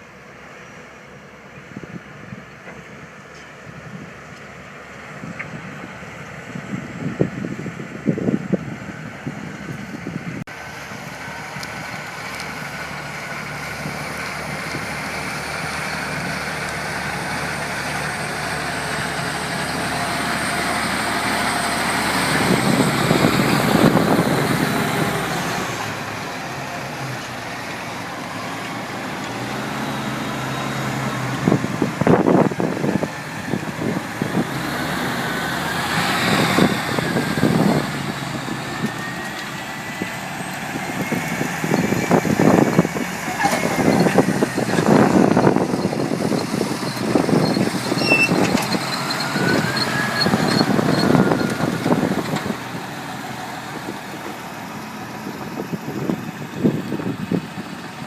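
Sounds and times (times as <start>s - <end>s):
tractor diesel engine: 0.0s - 58.0s
wind buffeting microphone: 5.1s - 11.9s, 13.8s - 58.0s.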